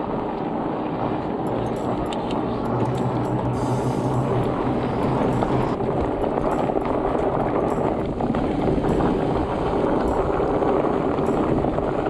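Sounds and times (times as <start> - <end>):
bike tyres rumbling on dirt trail: 0.0 - 12.0.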